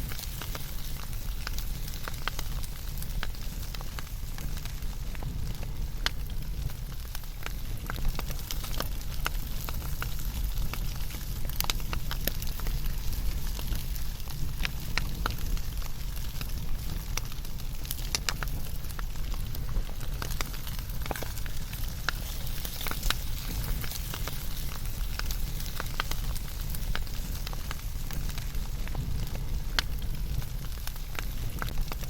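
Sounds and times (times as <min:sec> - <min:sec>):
fire crackles and pops: 0:00.0 - 0:32.0
wood fire burning: 0:00.0 - 0:32.0.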